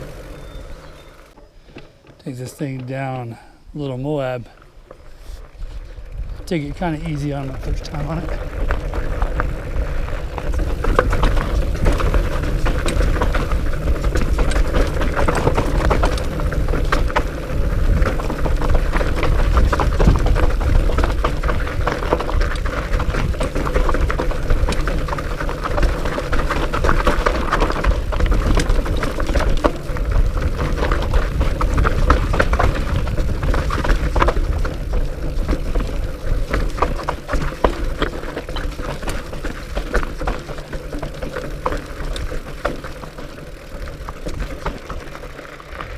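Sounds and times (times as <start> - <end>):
bike rattling over bumps: 0.0 - 45.9
bike tires rolling over rock: 0.0 - 45.9
wind rumbling on microphone: 3.3 - 45.9.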